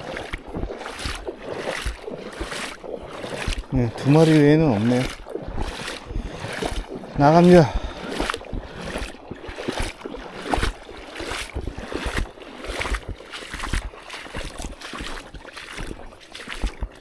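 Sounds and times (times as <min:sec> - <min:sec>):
wading footsteps splashing: 0:00.0 - 0:17.0.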